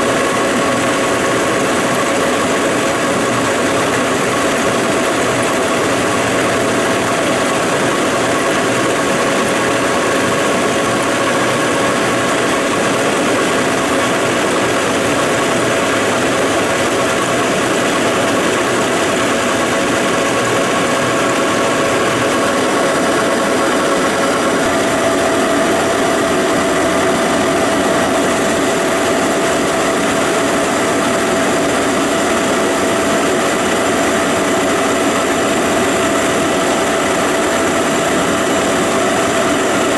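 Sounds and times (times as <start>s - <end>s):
lathe running: 0.0s - 39.9s.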